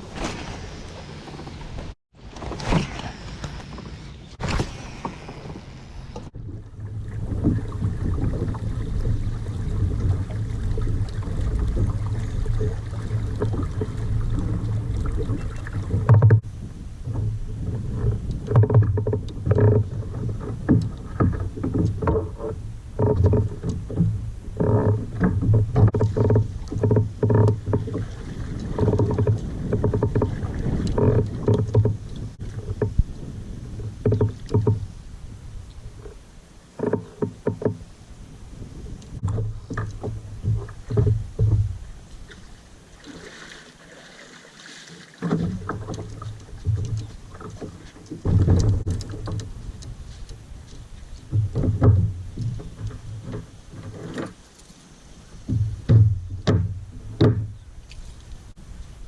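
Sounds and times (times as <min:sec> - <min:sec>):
knocks and splashes: 0:00.0 - 0:16.5, 0:17.1 - 0:34.9, 0:39.1 - 0:54.7, 0:55.4 - 0:58.1
kayak hull and water noise: 0:00.0 - 0:59.0.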